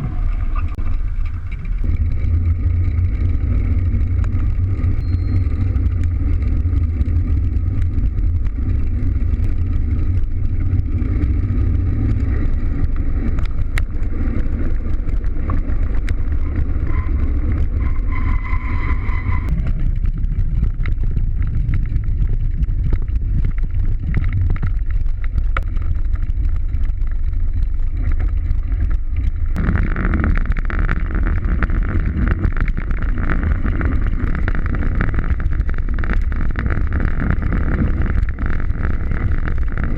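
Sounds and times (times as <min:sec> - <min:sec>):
bicycle tyre and road noise: 0:00.0 - 0:39.9
wind buffeting microphone: 0:00.0 - 0:39.9.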